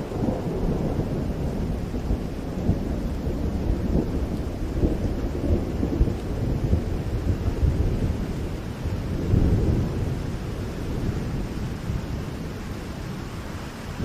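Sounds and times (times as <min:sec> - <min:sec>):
low rolling thunder: 0:00.0 - 0:14.0
steady rain: 0:00.0 - 0:14.0.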